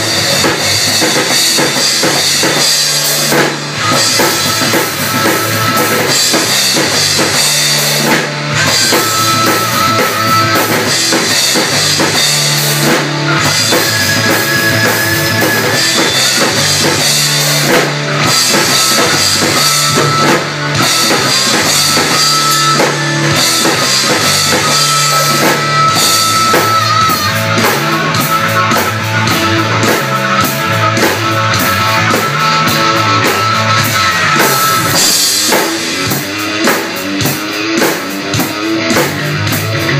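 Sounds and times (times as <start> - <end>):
drum kit rock beat: 0.0 - 39.9
rock music with guitar and bass: 0.0 - 39.9.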